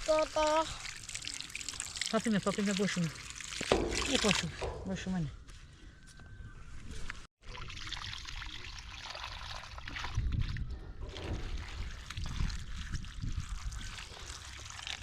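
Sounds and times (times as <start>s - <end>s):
water trickling: 0.0s - 4.6s, 7.4s - 15.0s.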